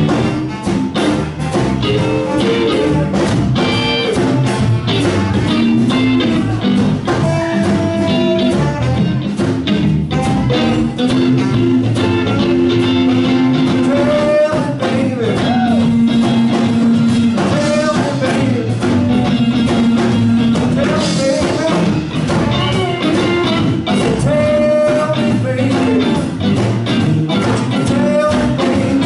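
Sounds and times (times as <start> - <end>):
saxophone: 0.0 - 26.4
bass guitar: 0.0 - 29.0
drum kit: 0.0 - 29.0
electric guitar: 0.0 - 29.0.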